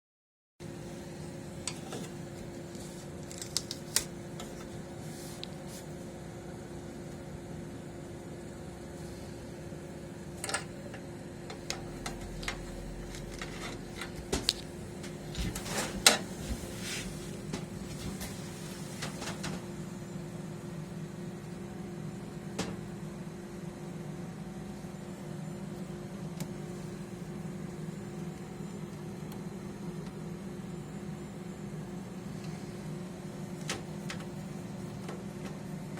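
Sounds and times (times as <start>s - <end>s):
machine hum: 0.6s - 35.9s.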